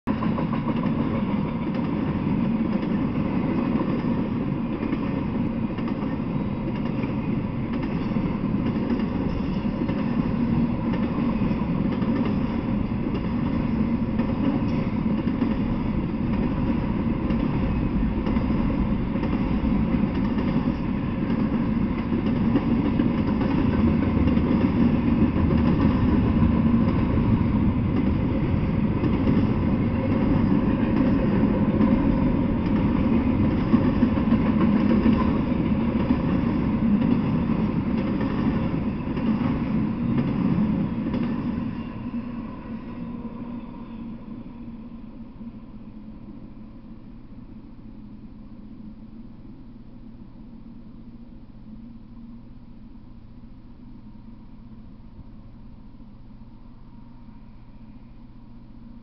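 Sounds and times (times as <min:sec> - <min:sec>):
train wheels rumbling on rails: 0:00.1 - 0:47.4.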